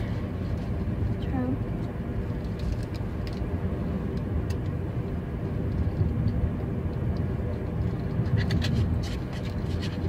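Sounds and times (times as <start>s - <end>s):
car road noise from inside: 0.0s - 10.0s.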